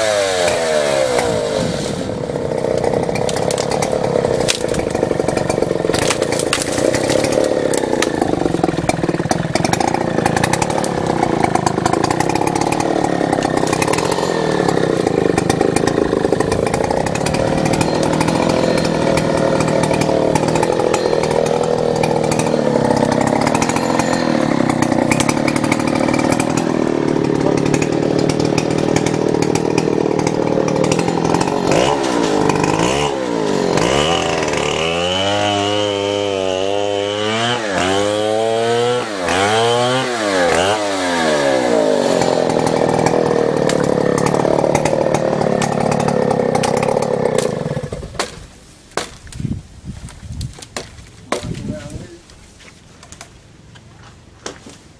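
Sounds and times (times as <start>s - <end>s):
chainsaw engine revving: 0.0s - 48.2s
chainsaw cutting timber: 0.0s - 52.4s.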